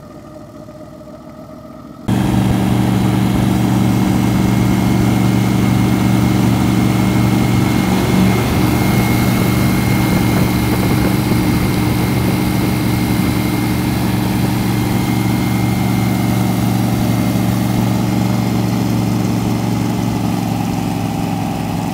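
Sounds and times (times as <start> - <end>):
airboat engine and propeller: 0.0 - 21.9.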